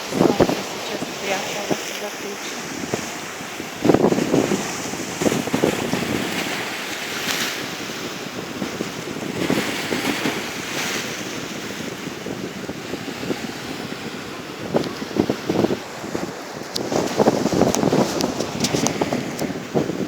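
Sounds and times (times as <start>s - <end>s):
sea surf washing ashore: 0.0s - 20.0s
wind buffeting microphone: 0.0s - 20.0s.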